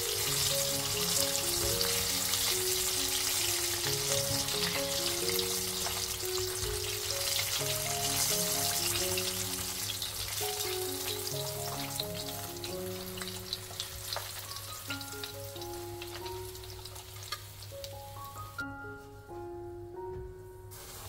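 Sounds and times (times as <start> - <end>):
hot oil sizzling and crackling: 0.0 - 18.6, 20.7 - 21.0.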